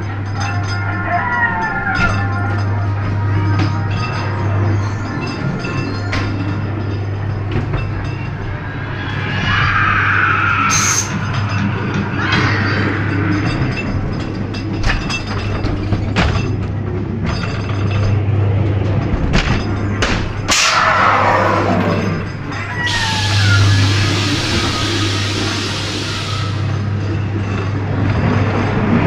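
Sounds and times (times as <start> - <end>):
eerie music: 0.0 - 29.0.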